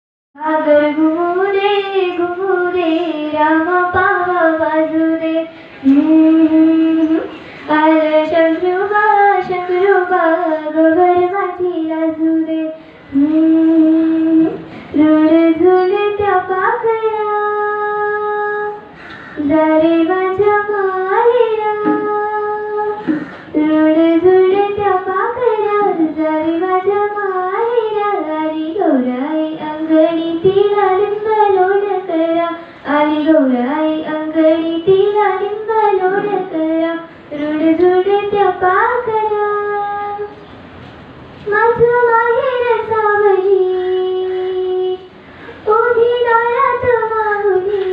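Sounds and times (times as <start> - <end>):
girl singing unaccompanied: 0.4 - 40.5, 41.4 - 47.9.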